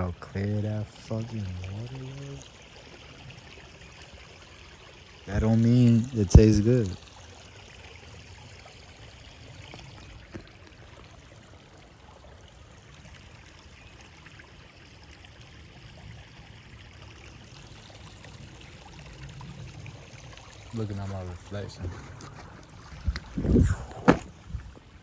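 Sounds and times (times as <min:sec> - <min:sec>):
stream water flowing: 0:00.0 - 0:25.0.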